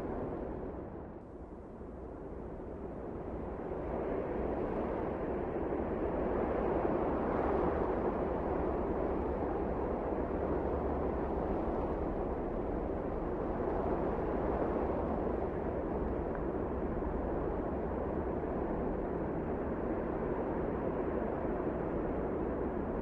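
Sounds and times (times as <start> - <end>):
wind blowing steadily: 0.0 - 23.0.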